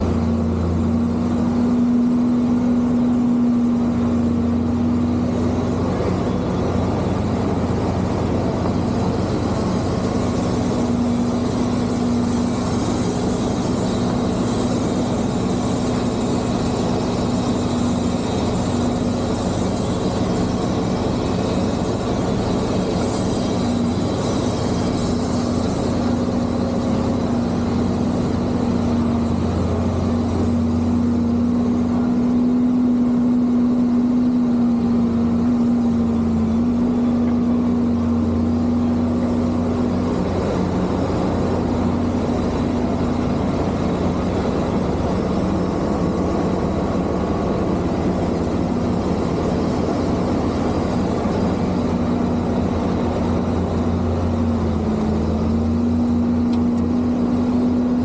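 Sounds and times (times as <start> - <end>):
heavy diesel engine running: 0.0 - 58.0
held engine tone: 0.0 - 58.0.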